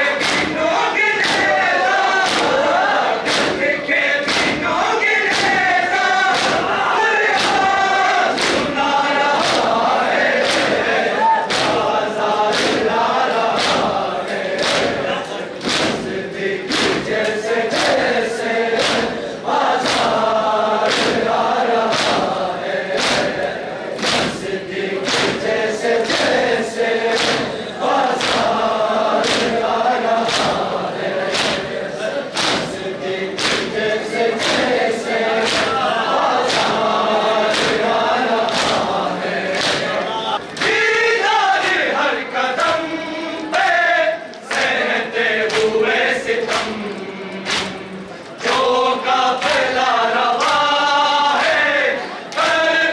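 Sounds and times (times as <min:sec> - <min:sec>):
men chanting together: 0:00.0 - 0:52.9
chest beating slaps: 0:00.1 - 0:40.9, 0:45.5 - 0:48.8.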